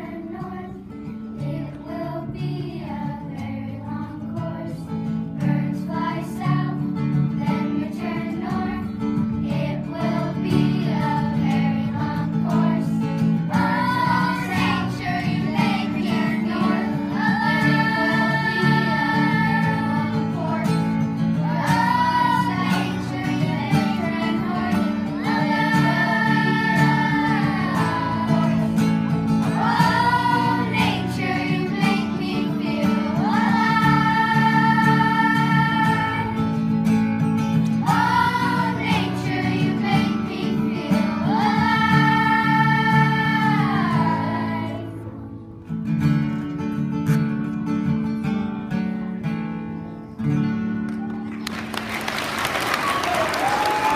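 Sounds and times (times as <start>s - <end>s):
children singing: 0.0s - 4.8s, 5.4s - 36.7s, 37.8s - 45.0s
strummed acoustic guitar: 0.0s - 51.0s.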